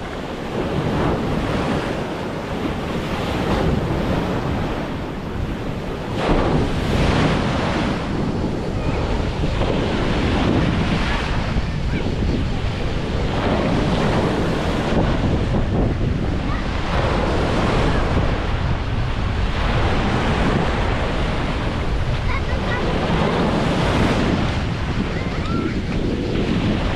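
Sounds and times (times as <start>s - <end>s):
sea waves washing onto beach: 0.0s - 26.9s
wind buffeting microphone: 0.0s - 26.9s.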